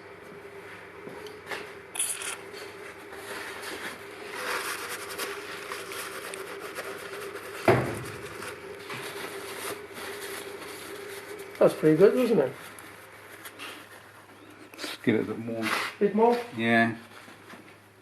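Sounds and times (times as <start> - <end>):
handling and scraping: 2.0 - 17.8.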